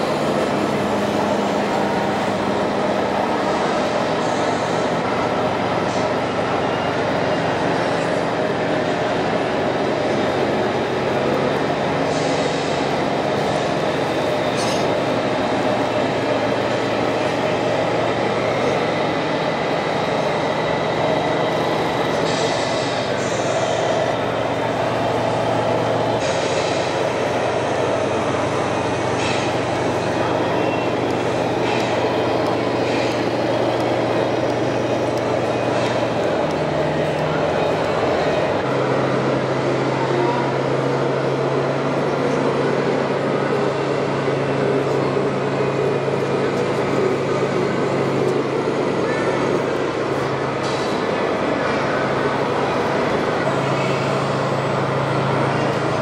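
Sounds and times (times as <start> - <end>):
model truck engine drone: 0.0 - 56.0.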